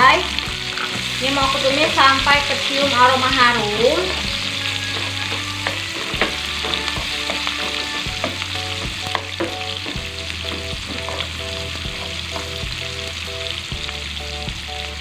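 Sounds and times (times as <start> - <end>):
onion sizzling in a frying pan: 0.0 - 15.0
spatula knocking and scraping pan: 0.6 - 12.8.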